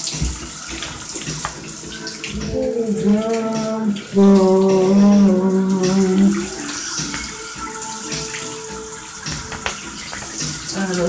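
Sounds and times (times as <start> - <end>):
shower water hissing: 0.0 - 11.0.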